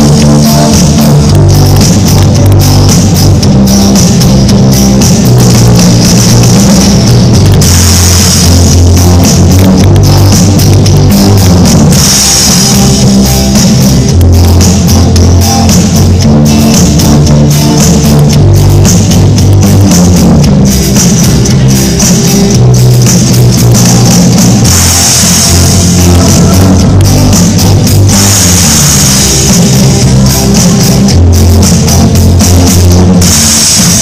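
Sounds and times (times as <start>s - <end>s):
bass line: 0.0s - 34.0s
drum kit beating: 0.0s - 34.0s
electric guitar: 0.0s - 34.0s.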